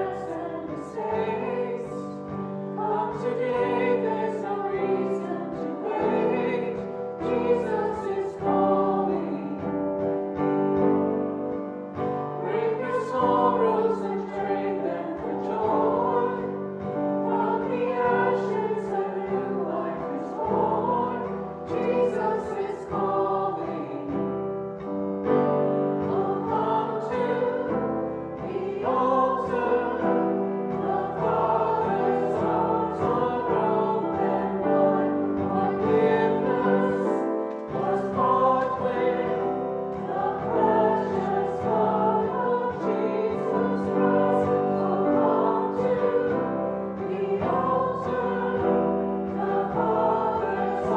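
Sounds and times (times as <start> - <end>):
choir singing sacred music: 0.0 - 50.9
instrumental accompaniment: 0.0 - 50.9.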